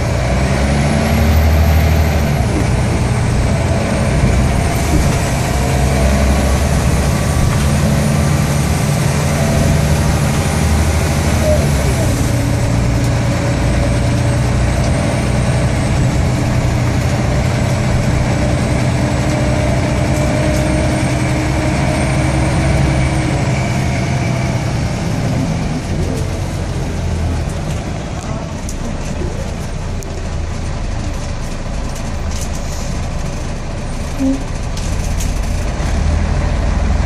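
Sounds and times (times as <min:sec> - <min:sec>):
diesel bus engine running: 0:00.0 - 0:37.0.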